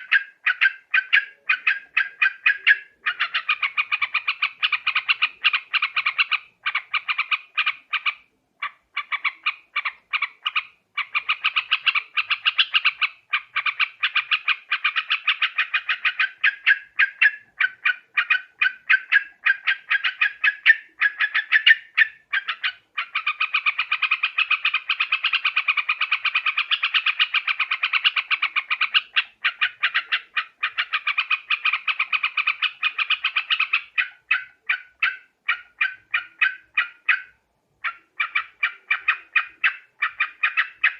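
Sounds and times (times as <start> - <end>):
bird chattering call: 0.0 - 40.9.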